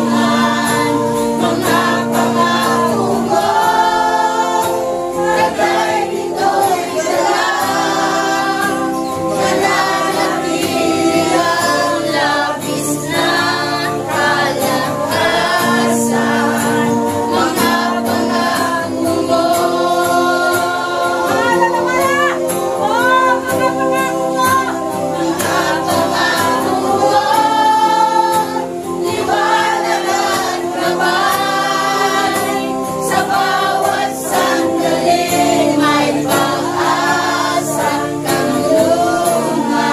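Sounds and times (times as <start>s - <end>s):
congregation singing praise chorus: 0.0s - 39.9s
instrumental accompaniment: 0.0s - 39.9s.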